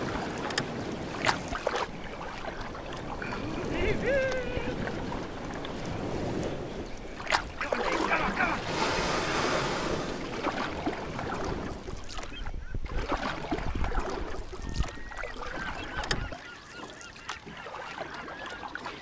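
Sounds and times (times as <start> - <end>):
gulls calling: 0.0 - 12.8, 14.0 - 19.0
wind buffeting microphone: 0.0 - 16.4.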